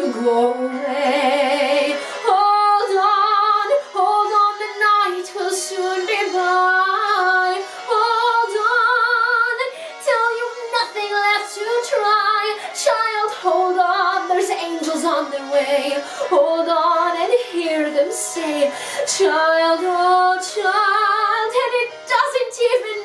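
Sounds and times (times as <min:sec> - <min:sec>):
woman singing: 0:00.0 - 0:23.0.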